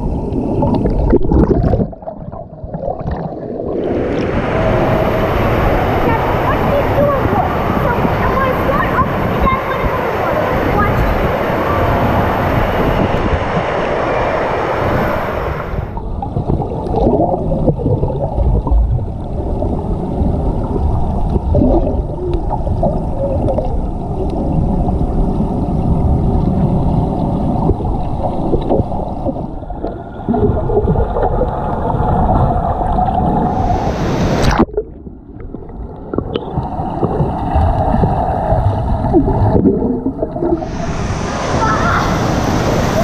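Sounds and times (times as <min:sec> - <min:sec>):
muffled underwater rumble: 0:00.0 - 0:43.0
rushing splashing water: 0:00.0 - 0:43.0.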